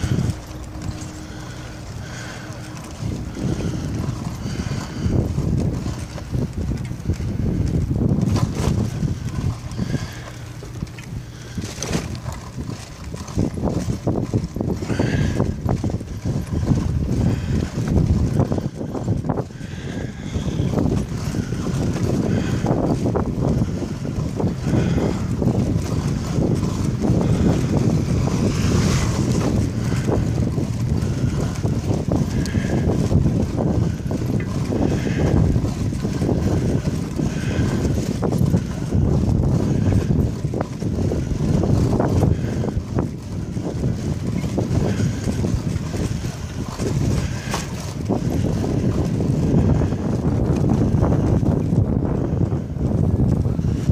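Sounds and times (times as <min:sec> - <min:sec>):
bicycle rattling: 0:00.0 - 0:53.9
bicycle tyres rumbling on bricks: 0:00.0 - 0:53.9
wind buffeting microphone: 0:00.0 - 0:53.9.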